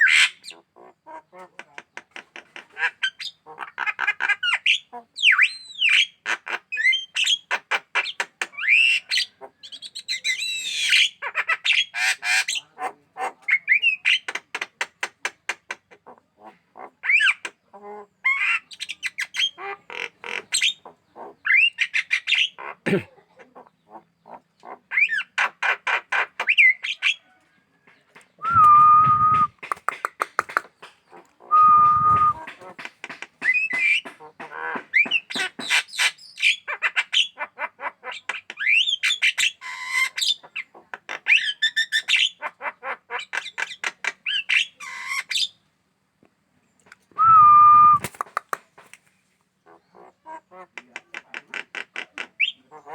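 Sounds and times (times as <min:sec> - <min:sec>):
myna chattering and squawking: 0:00.0 - 0:27.3, 0:28.4 - 0:45.5, 0:49.7 - 0:52.9.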